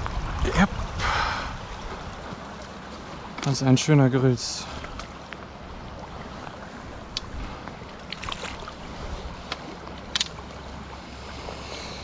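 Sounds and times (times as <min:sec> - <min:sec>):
river water over rocks: 0:00.0 - 0:12.0.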